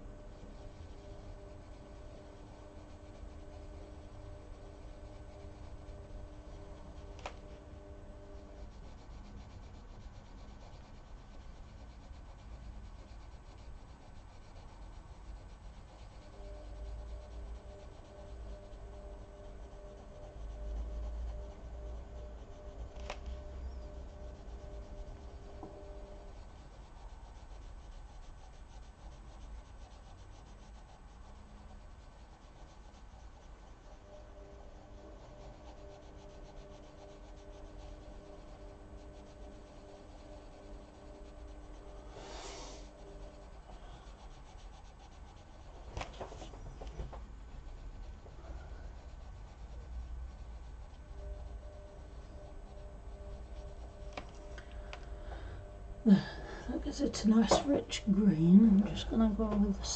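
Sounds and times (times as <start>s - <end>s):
pencil scratching on paper: 0.0s - 59.9s.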